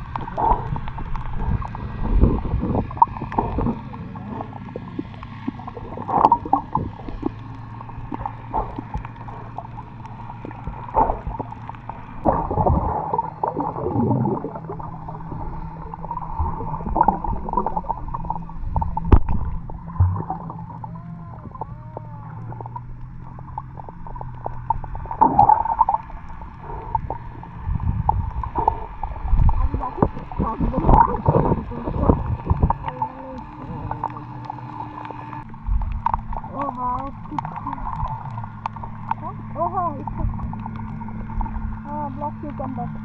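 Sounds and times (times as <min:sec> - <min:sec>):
steady low hum: 0:00.0 - 0:43.0
underwater gurgles and bubbling: 0:00.0 - 0:43.0.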